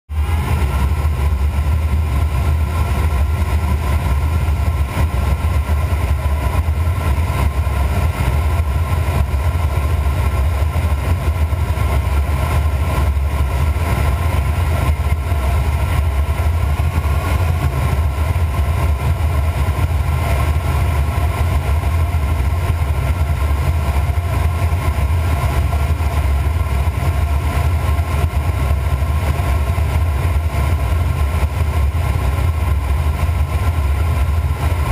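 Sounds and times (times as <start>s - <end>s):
airflow rushing in cockpit: 0.1s - 34.9s.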